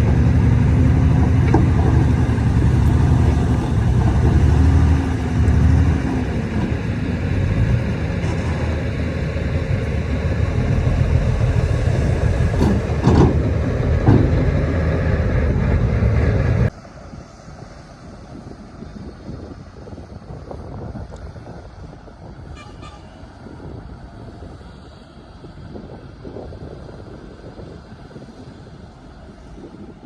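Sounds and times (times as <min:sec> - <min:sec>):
diesel engine rumble: 0:00.0 - 0:30.0.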